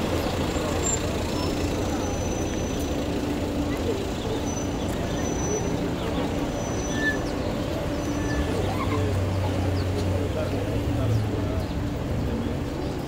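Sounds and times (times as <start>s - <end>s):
low steady engine hum: 0.0s - 13.0s
pedestrians chattering: 0.0s - 13.0s
traffic: 0.0s - 13.0s.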